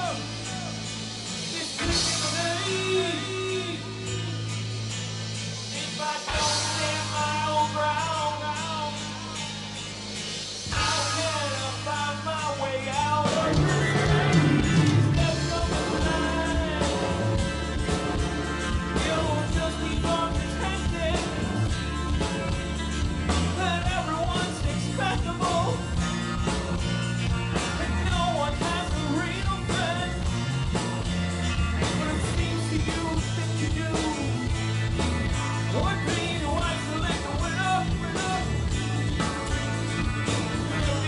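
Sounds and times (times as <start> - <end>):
bass guitar: 0.0 - 41.0
drums: 0.0 - 41.0
electric guitars: 0.0 - 41.0
keyboards: 0.0 - 41.0.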